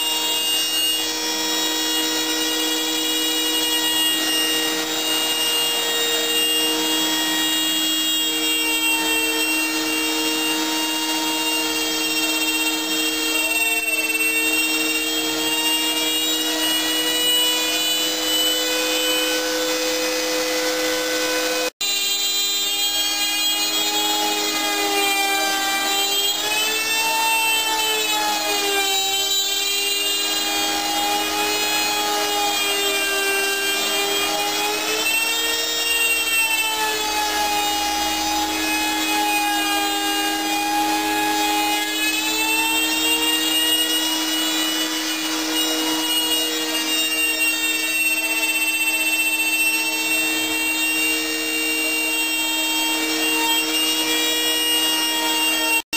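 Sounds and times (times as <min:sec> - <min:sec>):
cnc router cutting with whine: 0:00.0 - 0:55.9.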